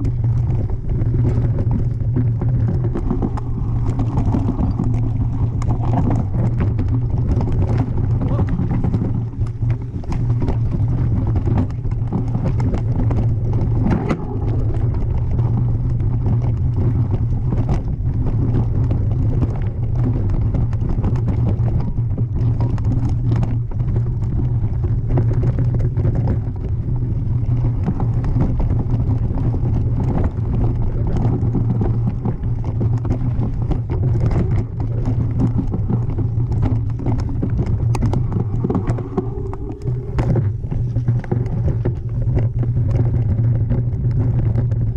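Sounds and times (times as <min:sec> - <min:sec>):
bike rattling over rock: 0:00.0 - 0:44.9
wind rumble on microphone: 0:00.0 - 0:44.9.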